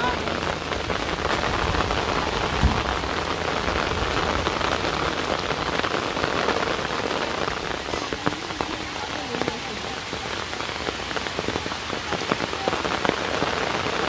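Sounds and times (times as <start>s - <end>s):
heavy rain: 0.0s - 14.0s
raindrop hits: 0.0s - 14.0s.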